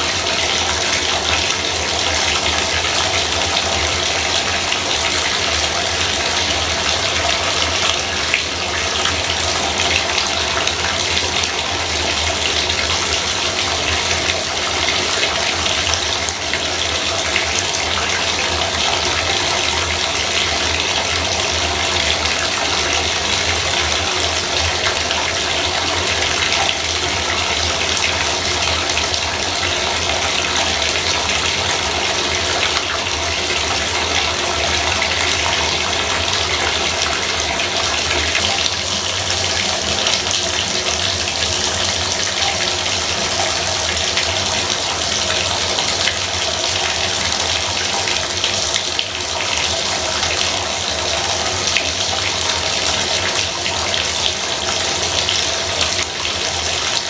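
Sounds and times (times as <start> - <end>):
faucet water gushing into tub: 0.0 - 57.0.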